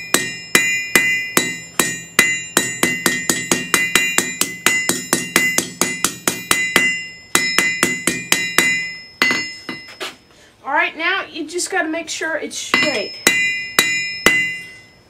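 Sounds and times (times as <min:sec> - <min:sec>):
hammer striking metal on anvil: 0:00.0 - 0:10.1, 0:12.7 - 0:15.0.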